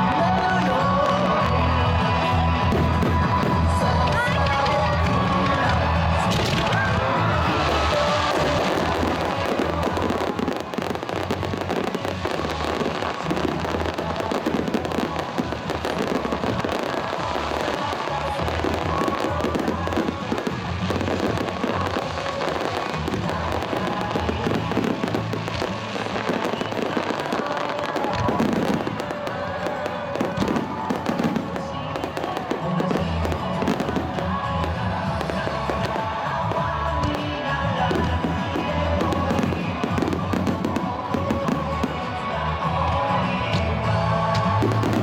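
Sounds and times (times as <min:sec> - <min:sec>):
fireworks bursting and crackling: 0:00.0 - 0:45.0
music playing: 0:00.0 - 0:45.0.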